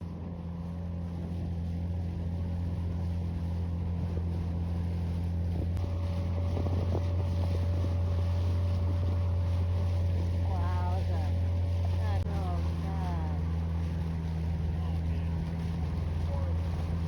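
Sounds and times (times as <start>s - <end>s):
boat engine droning: 0.0s - 17.0s
wind on microphone: 0.0s - 17.0s.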